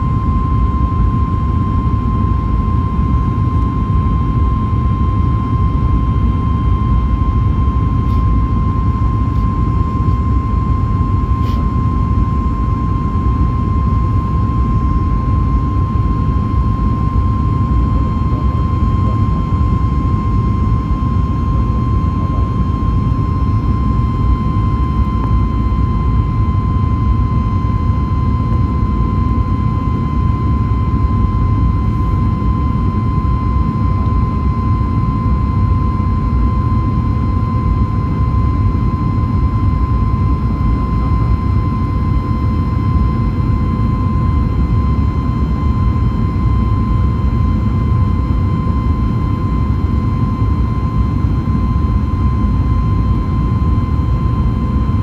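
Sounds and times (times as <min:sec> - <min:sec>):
jet engine rumble and whine: 0:00.0 - 0:55.0.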